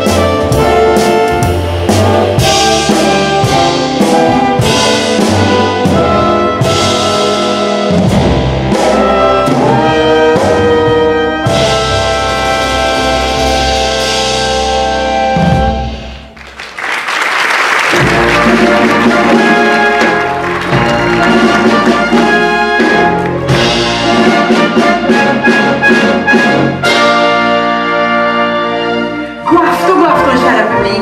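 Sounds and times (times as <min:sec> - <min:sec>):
orchestral music with brass: 0:00.0 - 0:16.4, 0:17.6 - 0:31.0.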